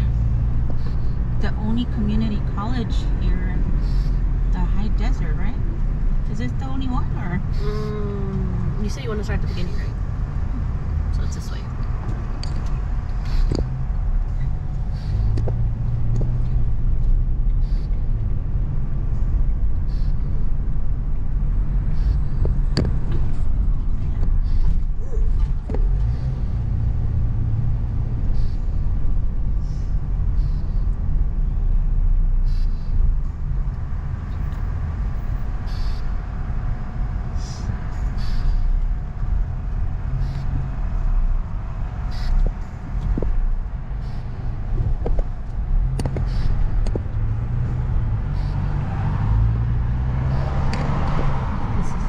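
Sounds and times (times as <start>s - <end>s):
car engine and tyre rumble: 0.0s - 52.0s.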